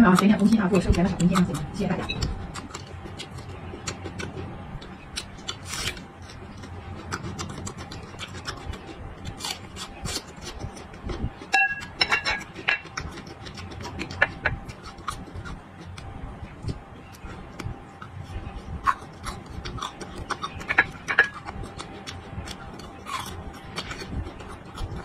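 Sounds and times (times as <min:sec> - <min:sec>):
crisp chewing crunches: 0:00.1 - 0:25.0.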